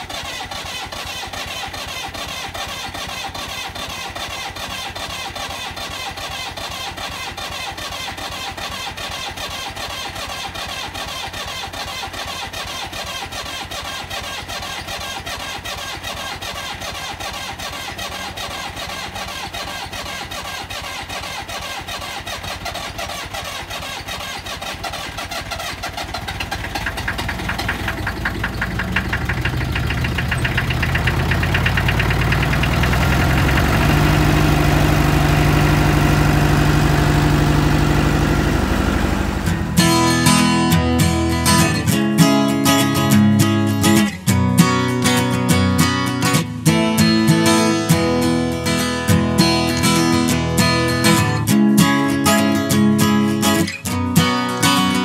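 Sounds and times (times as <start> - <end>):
diesel engine cranking and running: 0.0 - 55.0.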